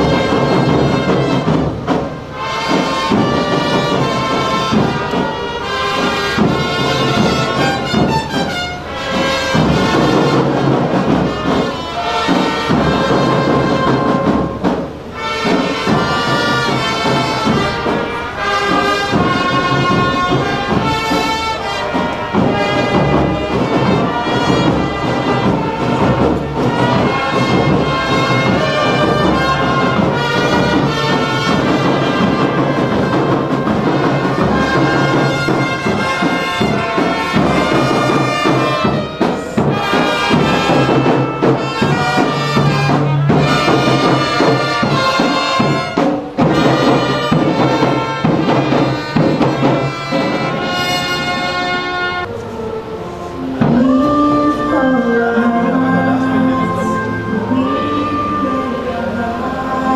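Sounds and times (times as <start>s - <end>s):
brass instruments playing chords: 0.0s - 59.9s.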